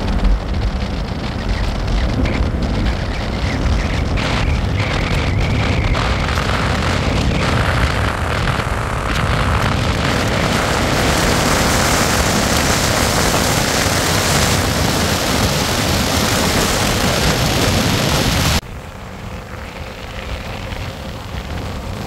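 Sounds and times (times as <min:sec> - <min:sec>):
vehicle road noise: 0:00.0 - 0:22.0
wind rushing: 0:00.0 - 0:22.0.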